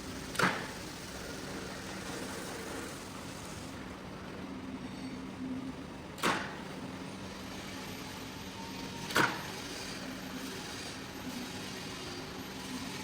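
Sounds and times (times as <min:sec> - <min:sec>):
mechanical hum with faint hiss: 0:00.0 - 0:13.0.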